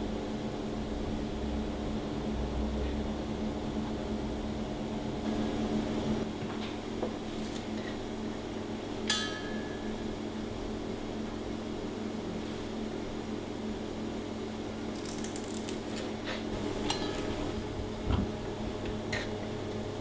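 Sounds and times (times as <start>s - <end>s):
kitchen ventilation hum: 0.0s - 20.0s.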